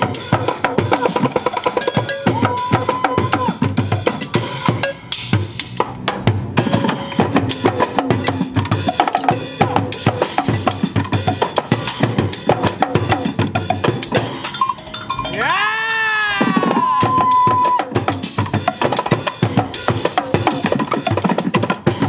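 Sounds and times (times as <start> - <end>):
percussion ensemble drumming: 0.0 - 22.0.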